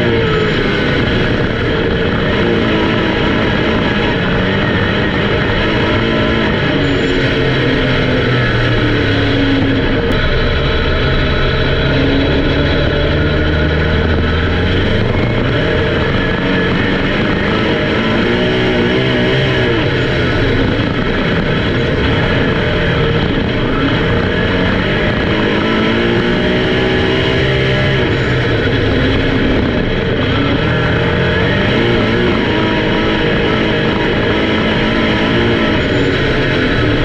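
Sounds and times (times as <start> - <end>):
race car engines passing: 0.0 - 37.0.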